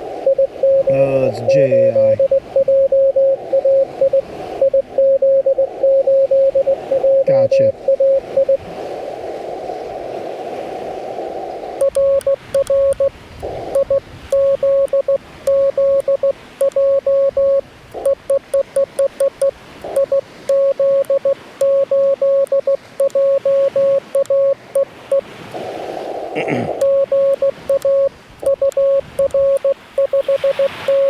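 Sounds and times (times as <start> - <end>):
receiver band hiss: 0.0 - 31.0
morse code sidetone: 0.2 - 8.6, 11.8 - 25.3, 26.7 - 31.0.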